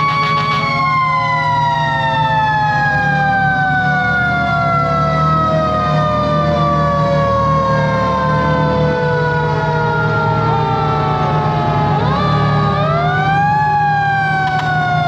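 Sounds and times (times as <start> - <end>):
diesel engine running: 0.0 - 15.0
fire engine siren wailing: 0.0 - 15.0.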